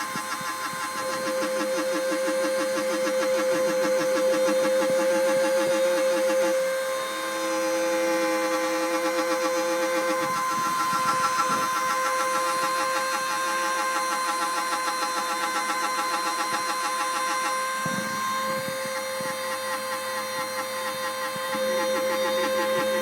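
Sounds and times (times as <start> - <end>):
spindle high whine: 0.0 - 23.0
stepper motors pulsing buzz: 0.0 - 23.0.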